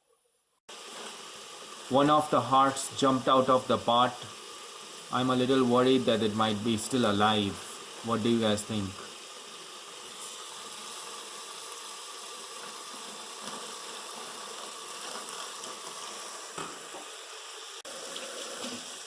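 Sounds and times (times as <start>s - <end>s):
meat sizzling in a pot: 0.7s - 19.0s.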